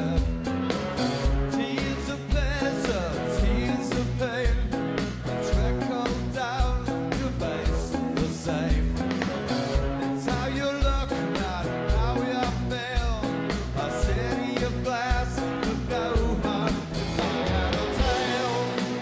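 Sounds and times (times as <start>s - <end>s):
person singing: 0.0s - 9.2s, 10.0s - 19.0s
drums beating: 0.0s - 19.0s
live rock band playing: 0.0s - 19.0s.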